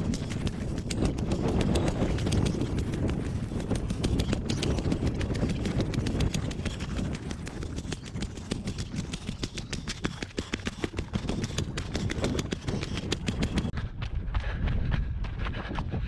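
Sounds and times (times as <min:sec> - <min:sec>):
running footsteps on dirt: 0:00.0 - 0:16.0
wind on microphone: 0:00.0 - 0:16.0.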